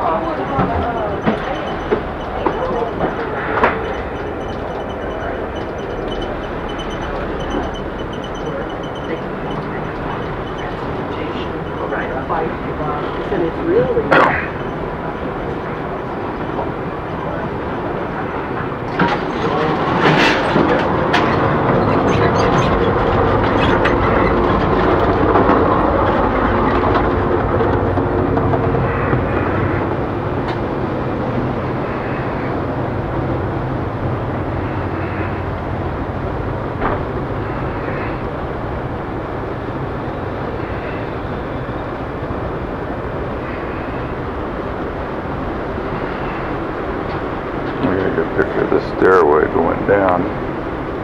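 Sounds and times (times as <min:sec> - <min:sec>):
moving train rumbling: 0:00.0 - 0:51.0.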